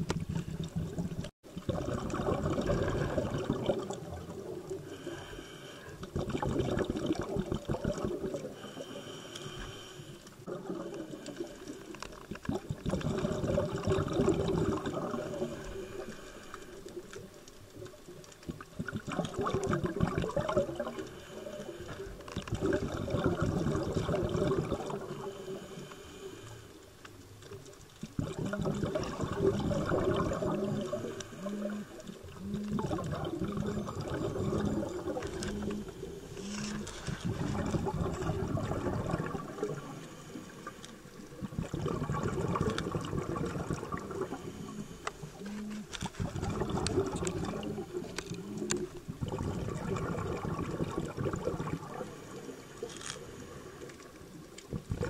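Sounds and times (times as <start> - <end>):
exhaled bubbles gurgling: 0.0 - 55.0
regulator breathing underwater: 4.6 - 12.2, 12.9 - 17.2, 19.0 - 27.0, 28.2 - 55.0.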